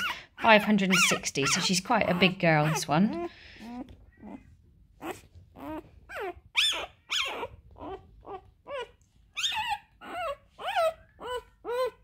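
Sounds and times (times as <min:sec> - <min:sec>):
puppy crying with high whines: 0:00.0 - 0:12.0.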